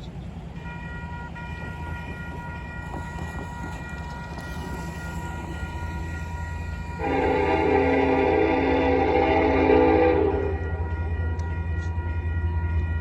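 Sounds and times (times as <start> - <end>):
crossing warning bell ringing: 0.0 - 13.0
diesel locomotive rumble: 0.0 - 13.0.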